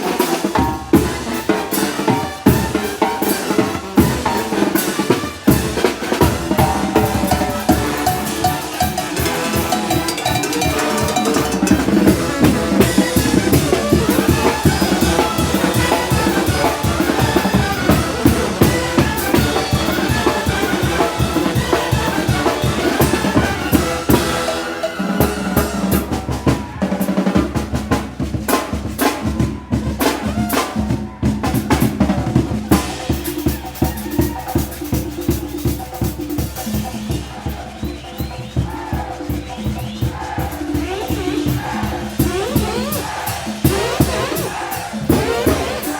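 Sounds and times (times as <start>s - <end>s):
brass band playing: 0.0s - 45.9s
drums playing: 0.0s - 45.9s.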